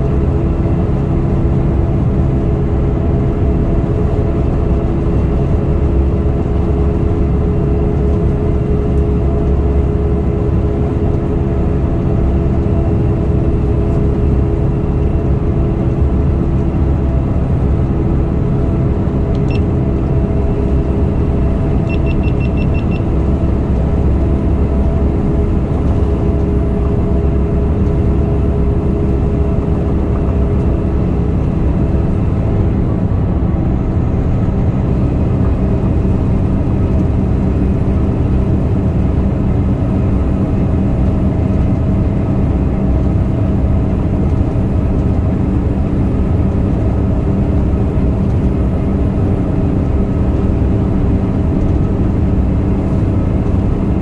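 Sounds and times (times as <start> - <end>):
truck engine and tyres droning: 0.0 - 54.0.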